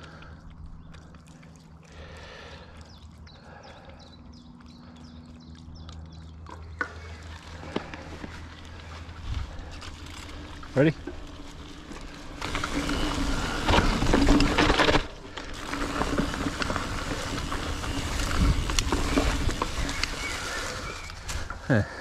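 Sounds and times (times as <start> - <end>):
bike clicks and rattles: 0.0 - 22.0
bike tyres on dirt trail: 0.0 - 22.0.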